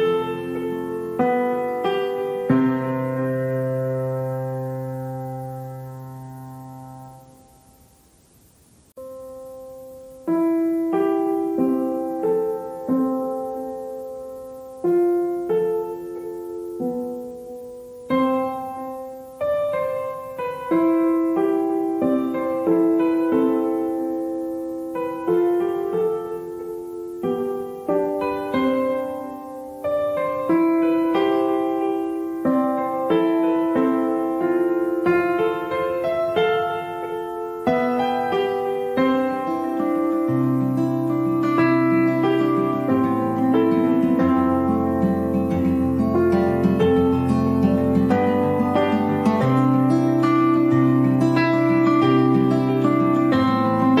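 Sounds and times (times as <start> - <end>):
gentle piano chords: 0.0 - 54.0.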